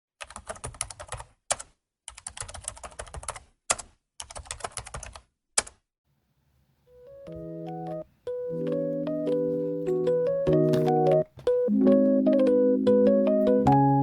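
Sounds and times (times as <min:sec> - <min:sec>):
computer keyboard typing: 0:00.2 - 0:05.8, 0:07.1 - 0:14.0.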